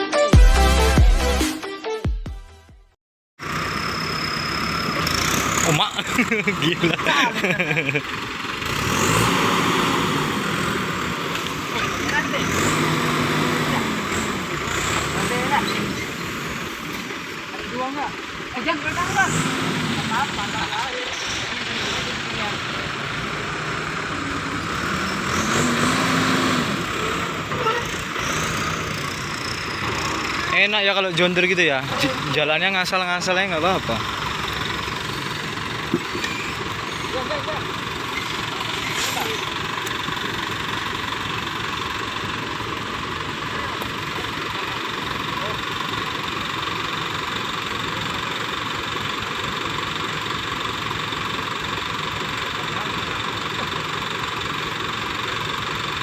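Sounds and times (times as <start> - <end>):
heavy vehicle engine labouring: 3.4 - 56.0.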